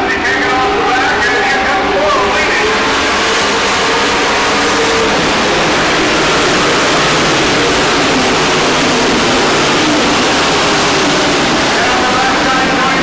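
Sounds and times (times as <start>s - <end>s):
race truck engines: 0.0s - 13.0s.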